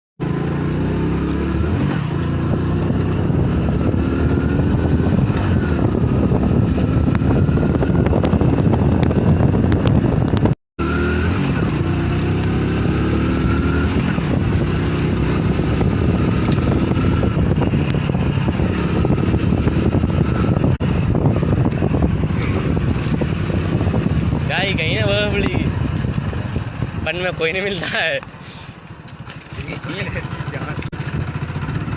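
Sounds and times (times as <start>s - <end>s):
motorcycle engine accelerating: 0.2s - 31.9s.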